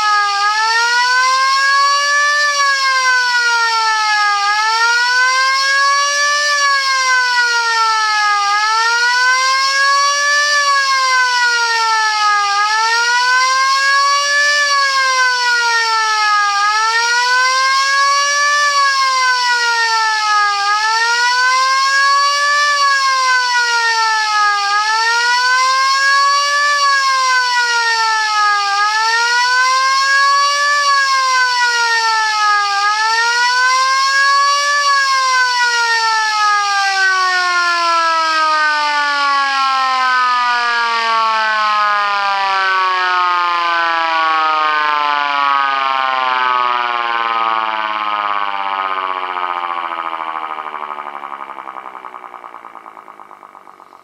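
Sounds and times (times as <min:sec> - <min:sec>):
electric motor siren wailing: 0:00.0 - 0:54.0.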